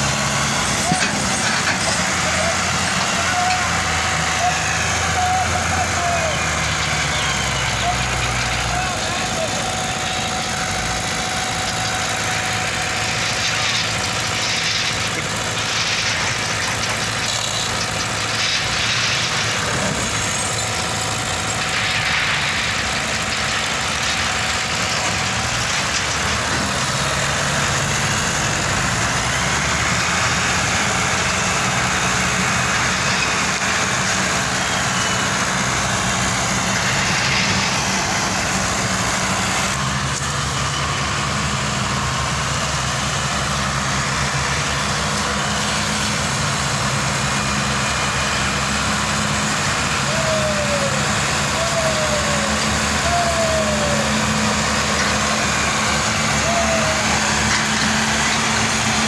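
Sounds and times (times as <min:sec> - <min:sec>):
tractor diesel engines under load: 0:00.0 - 0:59.0.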